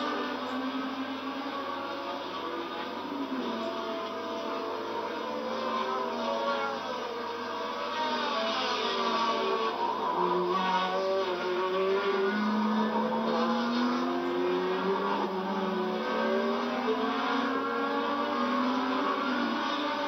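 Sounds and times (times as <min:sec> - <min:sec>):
race car engines at speed: 0:00.0 - 0:20.0.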